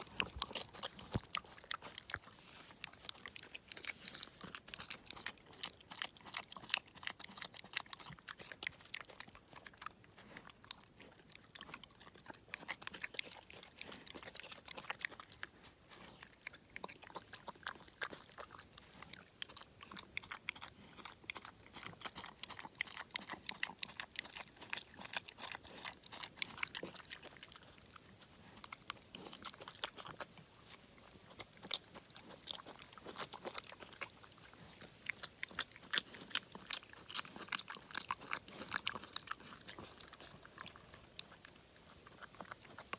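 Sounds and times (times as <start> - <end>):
pig chewing and smacking: 0.0 - 42.9.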